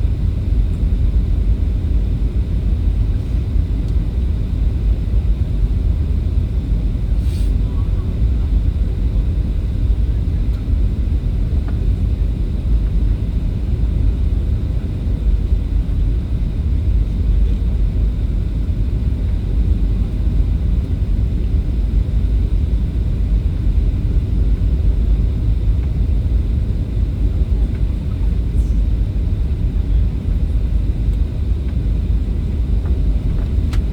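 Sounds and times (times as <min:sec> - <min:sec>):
airliner cabin rumble: 0:00.0 - 0:33.9.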